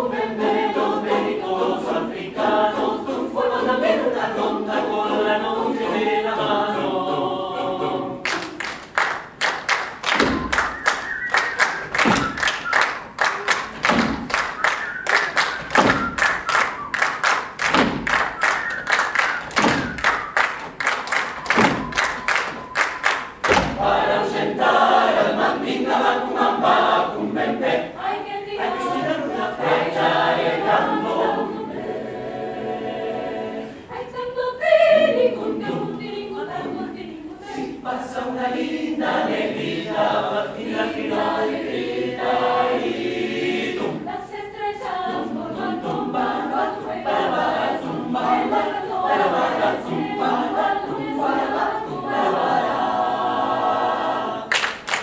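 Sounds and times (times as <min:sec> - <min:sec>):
mixed choir singing a cappella: 0:00.0 - 0:54.8.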